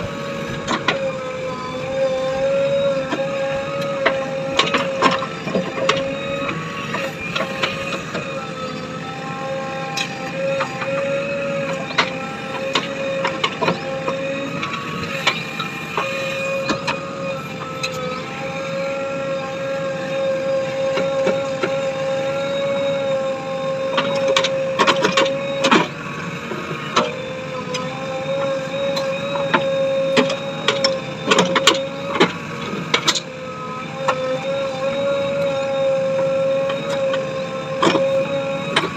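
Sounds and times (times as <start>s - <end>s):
diesel engine and hydraulics whine: 0.0s - 38.9s.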